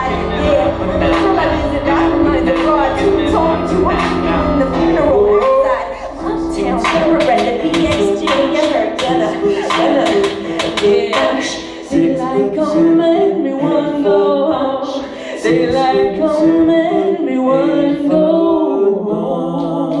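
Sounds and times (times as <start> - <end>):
unaccompanied voices singing: 0.0 - 20.0.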